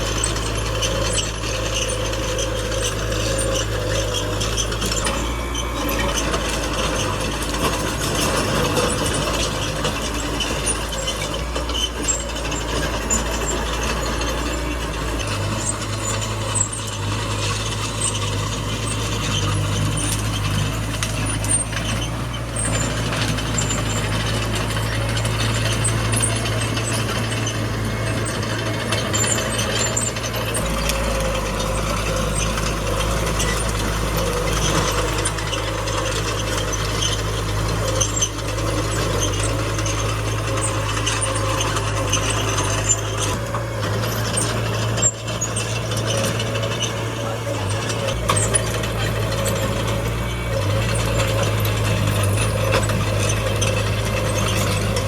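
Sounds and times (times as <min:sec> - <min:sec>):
bulldozer diesel engine running: 0:00.0 - 0:55.0
steel tracks clattering and squeaking: 0:00.0 - 0:55.0.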